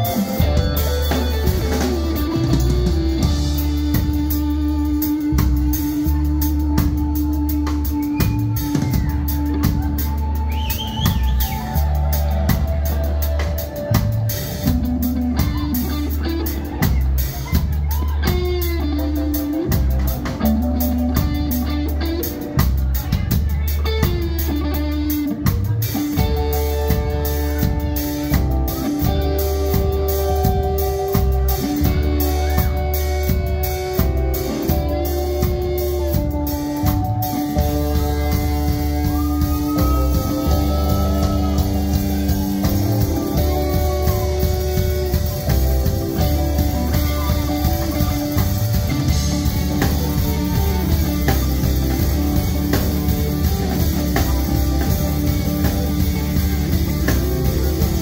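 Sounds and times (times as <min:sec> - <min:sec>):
bass: 0:00.0 - 0:58.0
drum kit beat: 0:00.0 - 0:58.0
electric guitar lines: 0:00.0 - 0:58.0
keyboards: 0:00.0 - 0:58.0.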